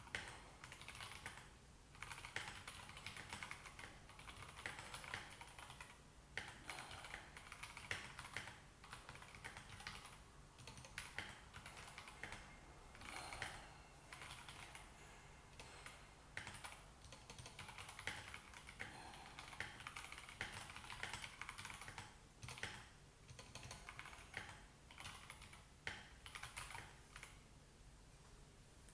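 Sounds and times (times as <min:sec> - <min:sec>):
mechanical keyboard typing: 0:00.0 - 0:14.8, 0:15.5 - 0:27.4.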